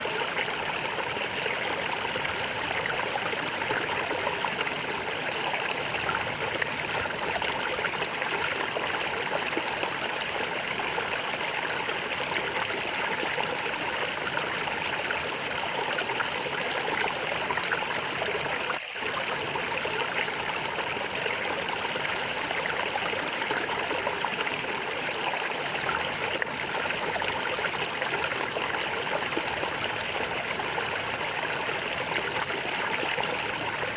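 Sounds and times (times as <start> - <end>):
stream water gurgling: 0.0 - 33.9.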